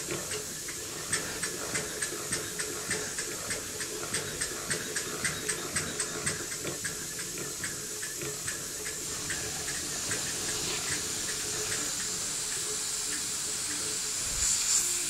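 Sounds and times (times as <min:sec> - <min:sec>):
model steam engine ticking: 0:00.0 - 0:15.0
steam hiss: 0:00.0 - 0:15.0.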